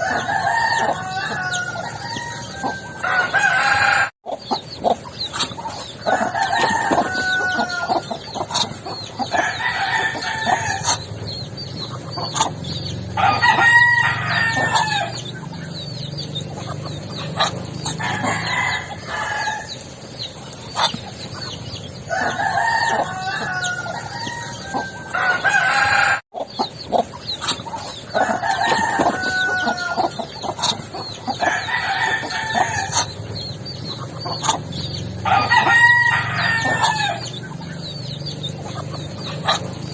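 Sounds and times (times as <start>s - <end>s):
chickens clucking and cheeping: 0.0s - 39.9s
roosters crowing: 0.0s - 39.9s.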